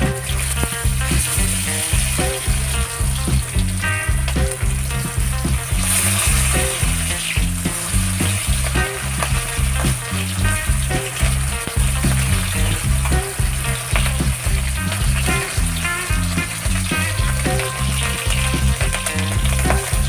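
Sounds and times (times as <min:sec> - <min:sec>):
background music with bass line: 0:00.0 - 0:20.0
oil sizzling as fish fries: 0:00.0 - 0:20.0.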